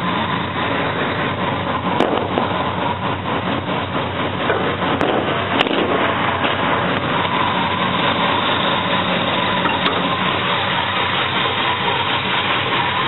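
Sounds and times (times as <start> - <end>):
vehicle engine with crackling rattle: 0.0 - 13.0.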